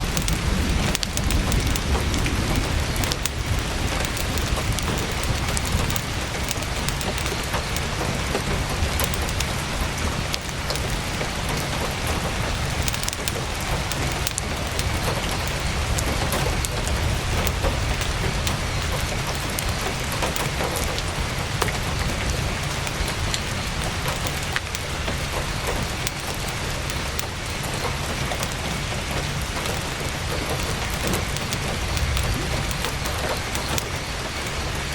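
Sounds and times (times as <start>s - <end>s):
heavy rain on tent fabric: 0.0s - 34.9s.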